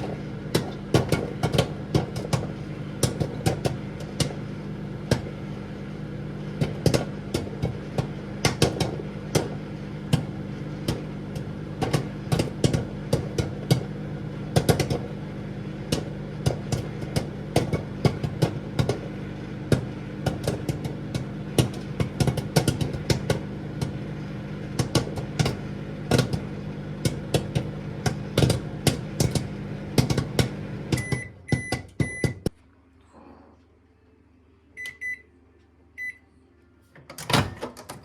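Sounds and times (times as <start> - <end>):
popcorn popping: 0.0 - 32.6
microwave oven humming: 0.0 - 38.0.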